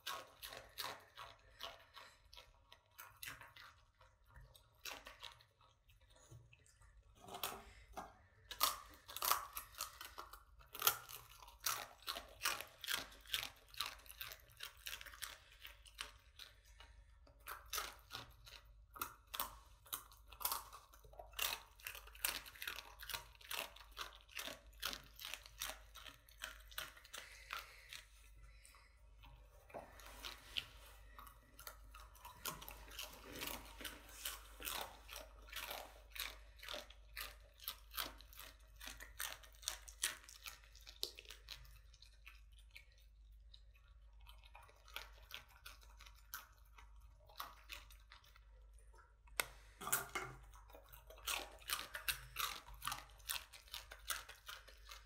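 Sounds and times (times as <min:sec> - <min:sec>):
dog crunching dry noodles: 0:00.0 - 0:06.3, 0:08.4 - 0:55.0.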